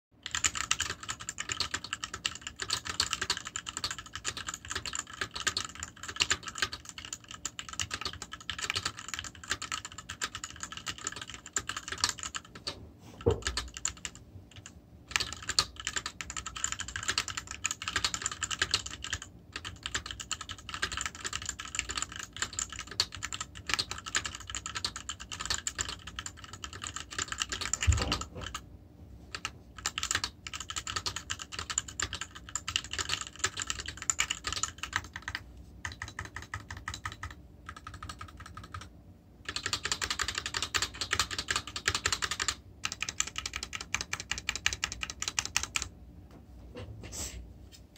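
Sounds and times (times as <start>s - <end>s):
mechanical keyboard typing: 0.2s - 28.6s, 29.3s - 45.9s.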